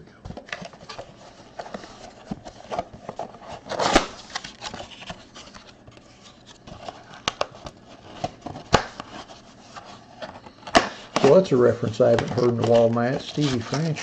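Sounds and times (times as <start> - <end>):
packaging rustling: 0.3 - 14.0.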